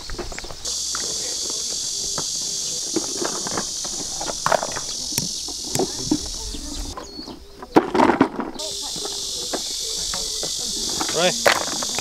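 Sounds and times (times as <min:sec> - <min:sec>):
high insect buzz: 0:00.0 - 0:07.1, 0:08.6 - 0:12.0
faint voices: 0:00.7 - 0:12.0.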